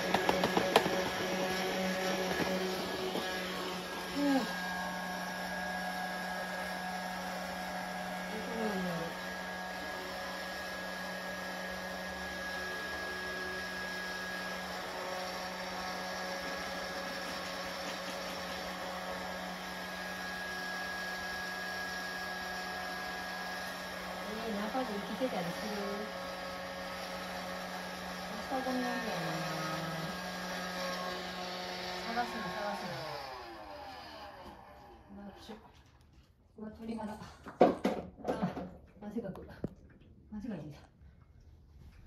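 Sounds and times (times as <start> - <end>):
vacuum cleaner running: 0.0 - 35.8.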